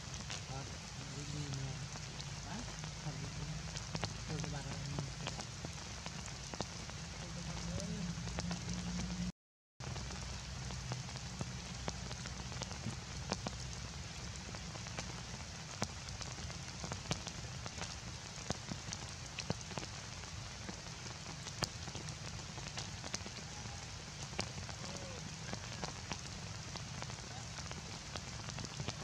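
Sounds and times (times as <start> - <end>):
heavy rain on a metal roof: 0.0 - 29.0
raindrops ticking: 0.0 - 29.0.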